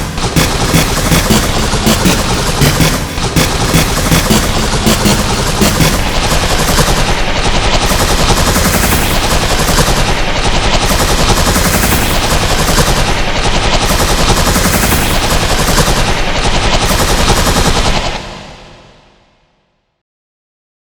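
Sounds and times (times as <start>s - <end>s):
harsh dense rapid crackling: 0.0s - 18.2s.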